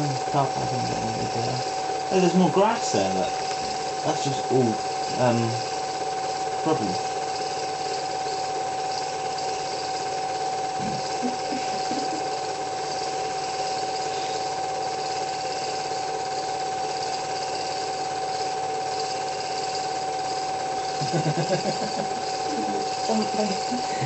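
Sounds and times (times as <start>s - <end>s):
film projector whirring and clattering: 0.0s - 24.0s.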